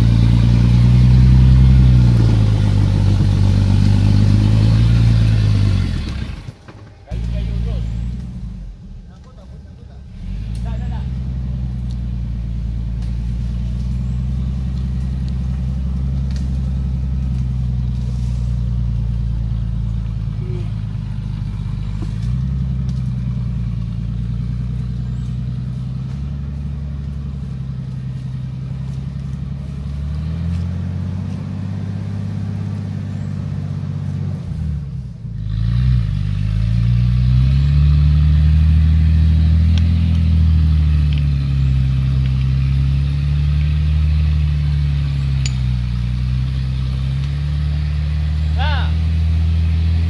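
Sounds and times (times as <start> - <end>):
off-road vehicle engine revving: 0.0 - 50.0.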